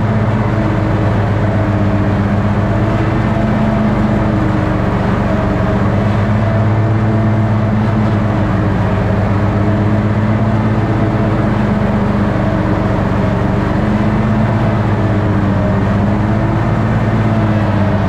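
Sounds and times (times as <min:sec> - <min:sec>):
riding mower engine droning: 0:00.0 - 0:18.0.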